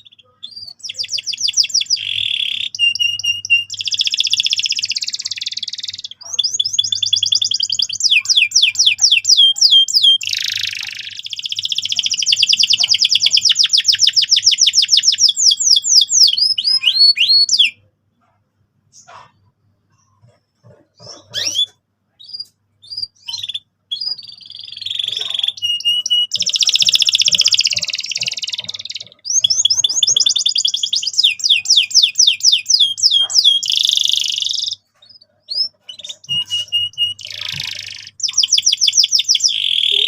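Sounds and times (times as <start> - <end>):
canary singing with trills: 0.0 - 40.0.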